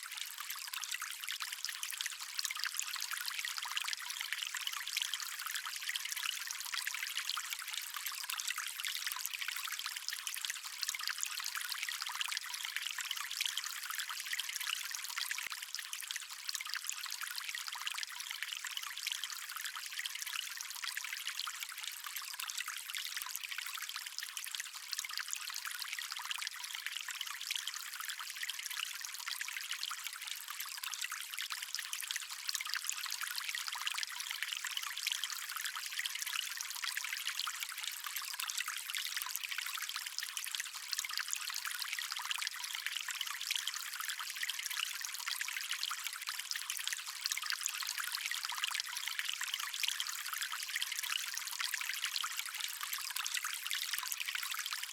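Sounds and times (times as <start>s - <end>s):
stream water trickling: 0.0s - 54.9s.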